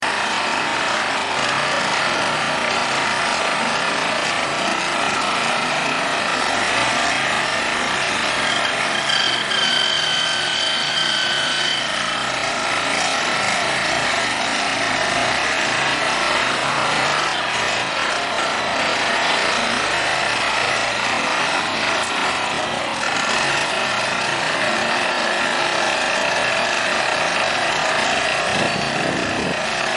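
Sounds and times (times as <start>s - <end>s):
harsh mechanical running noise: 0.0s - 29.9s.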